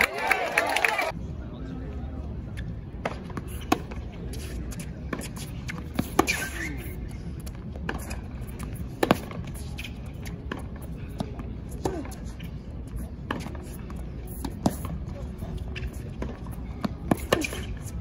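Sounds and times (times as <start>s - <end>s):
tennis ball bouncing: 3.0s - 17.9s
rackets hitting tennis ball: 3.0s - 18.0s.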